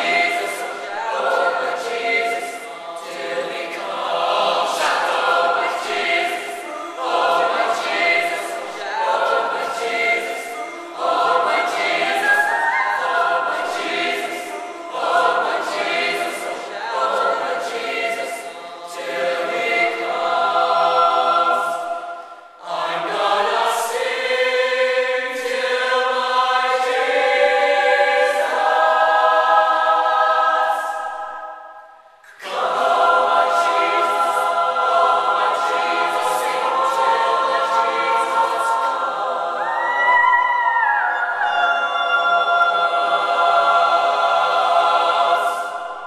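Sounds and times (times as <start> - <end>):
mixed choir singing: 0.0 - 46.0.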